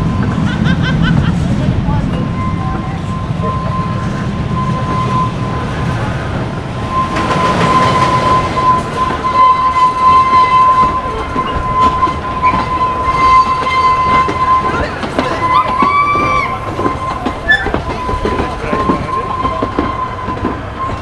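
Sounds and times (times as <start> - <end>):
train wheels clattering on rails: 0.0 - 21.0.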